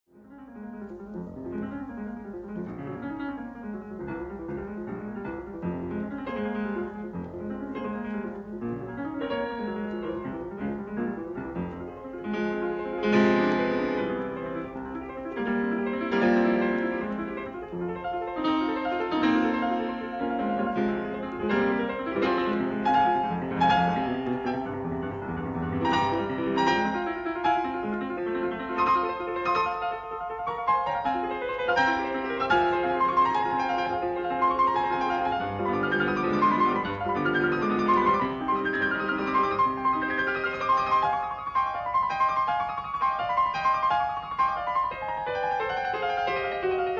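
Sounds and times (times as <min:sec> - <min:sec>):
piano music: 0:00.1 - 0:46.9.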